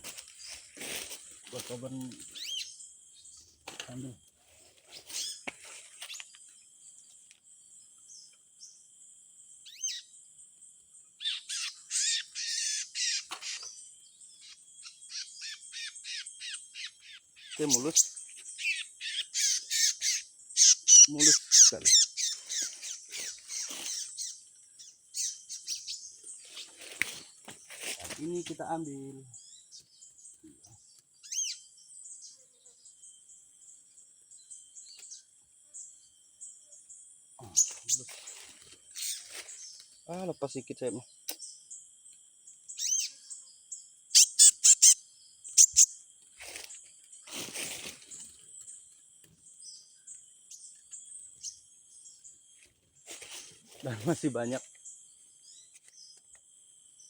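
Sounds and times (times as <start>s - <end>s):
high insect drone: 0.0s - 57.0s
small birds chirping: 0.0s - 57.0s.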